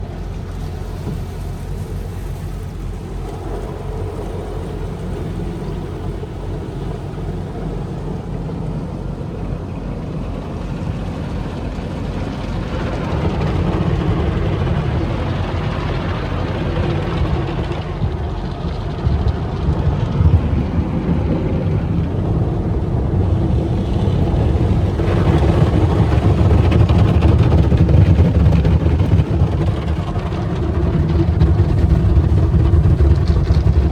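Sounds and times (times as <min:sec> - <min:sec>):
car wash machinery rumbling: 0:00.0 - 0:33.9.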